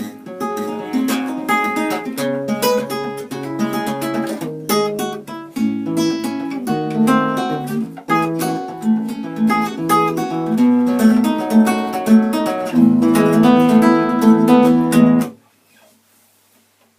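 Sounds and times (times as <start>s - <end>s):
acoustic guitar playing: 0.0s - 15.4s.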